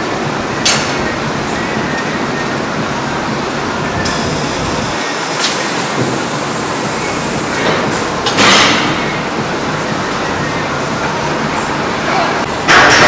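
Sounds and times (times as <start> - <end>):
milking machinery running: 0.0 - 13.0.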